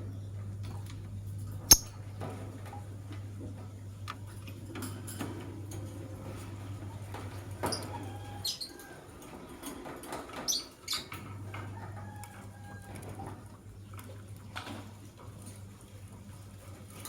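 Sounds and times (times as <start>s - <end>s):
clicks and scratching in cage: 0.6s - 17.0s.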